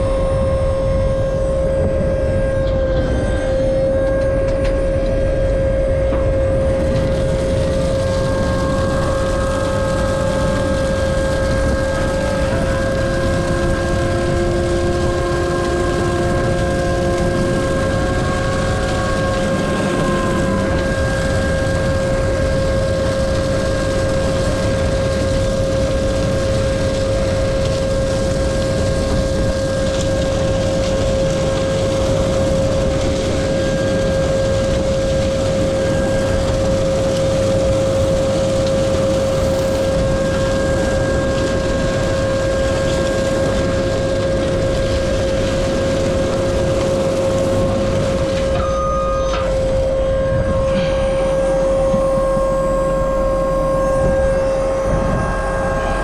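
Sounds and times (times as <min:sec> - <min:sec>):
constant engine whine: 0:00.0 - 0:56.0
tractor engine running: 0:02.6 - 0:48.6.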